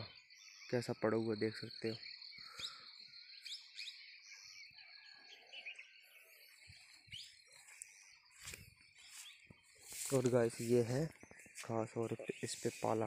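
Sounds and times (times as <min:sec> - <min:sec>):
faint songbird chirps: 0:00.0 - 0:13.0.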